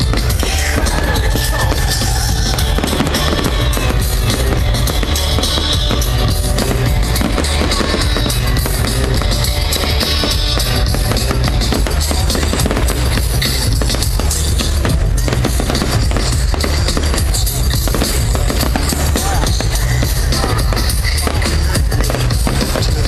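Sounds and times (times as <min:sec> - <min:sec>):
fireworks crackling and popping: 0:00.0 - 0:23.0
loud music with heavy bass: 0:00.0 - 0:23.0.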